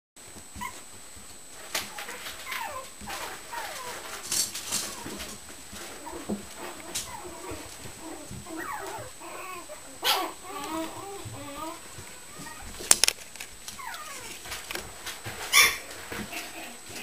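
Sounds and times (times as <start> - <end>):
puppies whining: 0.5 - 0.8, 2.0 - 12.9, 13.7 - 14.7, 15.3 - 17.0.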